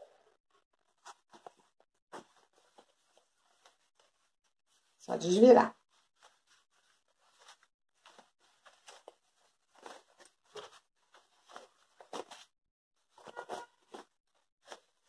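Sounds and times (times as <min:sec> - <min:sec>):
fabric rustling and crinkling: 0:00.5 - 0:15.0.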